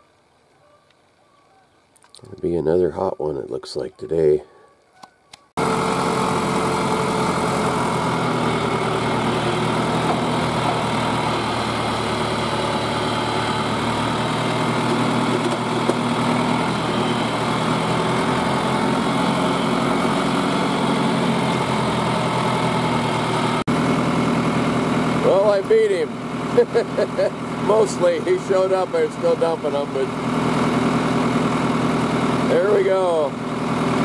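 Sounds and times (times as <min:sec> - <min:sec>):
tractor engine running: 0:05.6 - 0:34.0.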